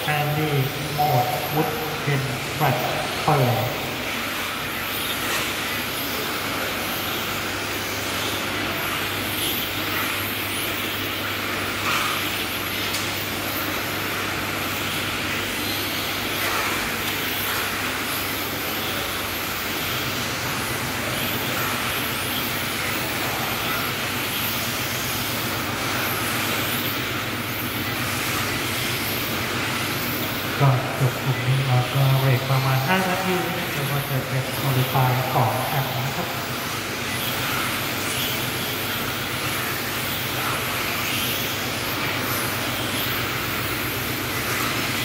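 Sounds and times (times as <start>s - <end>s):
rc cars high-pitched motor whine: 0.0s - 45.0s
steady low hum: 0.0s - 45.0s.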